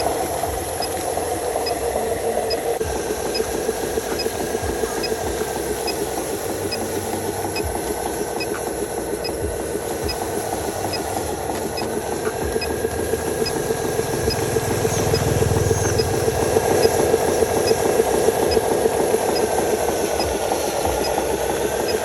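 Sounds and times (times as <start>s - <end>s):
model truck motor buzzing: 0.0s - 22.0s.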